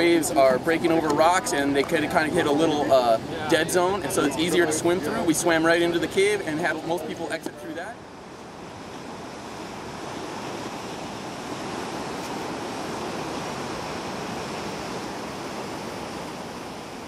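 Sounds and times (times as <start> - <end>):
ocean surf washing over rocks: 0.0 - 17.0.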